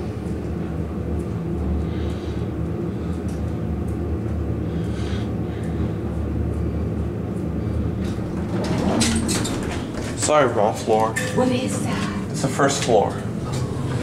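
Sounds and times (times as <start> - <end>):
elevator car humming: 0.0 - 14.0.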